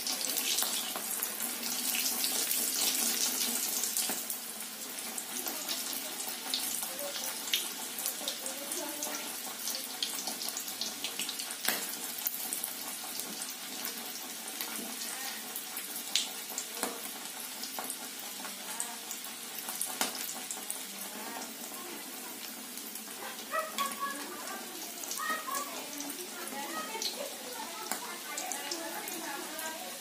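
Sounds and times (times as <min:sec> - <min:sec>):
food deep-frying in oil: 0:00.0 - 0:30.0.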